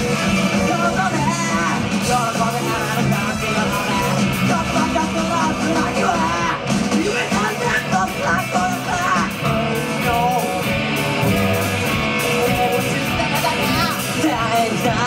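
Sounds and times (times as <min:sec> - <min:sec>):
drums: 0:00.0 - 0:15.0
electric guitars: 0:00.0 - 0:15.0
keyboard: 0:00.0 - 0:15.0.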